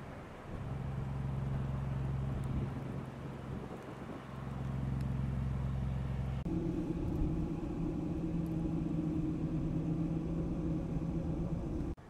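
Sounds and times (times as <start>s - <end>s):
engine and road drone in cabin: 0.0s - 12.0s
truck engine hum: 0.0s - 12.0s.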